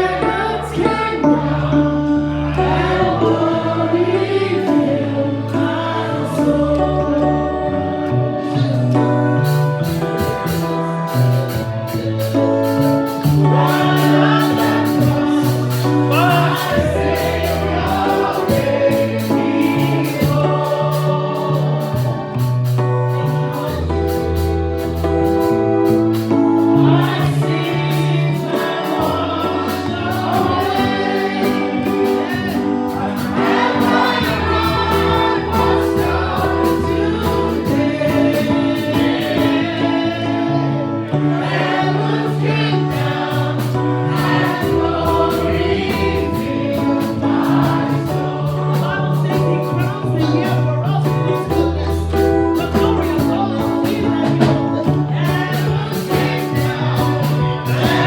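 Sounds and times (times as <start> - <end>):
band with bass and keyboard: 0.0 - 58.0
choir singing: 0.0 - 58.0.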